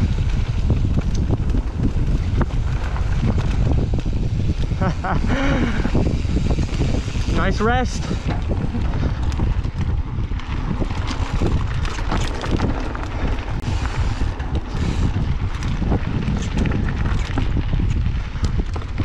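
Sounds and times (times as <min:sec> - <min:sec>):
bike clicks and rattles: 0:00.0 - 0:19.0
tyres rumbling on dirt: 0:00.0 - 0:19.0
wind buffeting microphone: 0:00.0 - 0:19.0.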